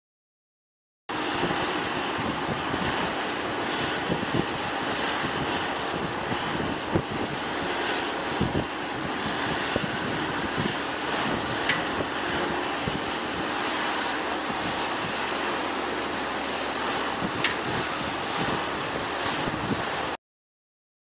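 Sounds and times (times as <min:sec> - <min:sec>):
wind buffeting microphone: 0:01.2 - 0:20.2.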